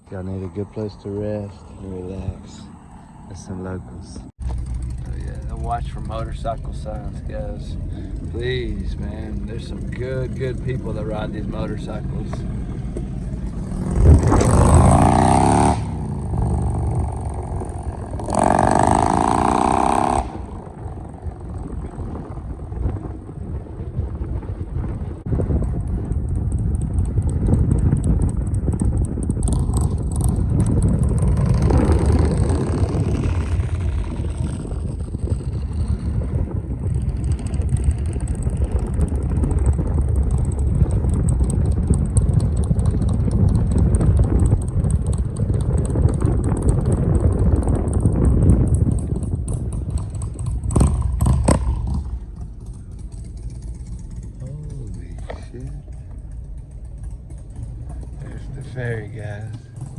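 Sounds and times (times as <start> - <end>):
car engine and tyre noise: 0.0 - 59.9
motorcycles passing by: 0.0 - 59.9.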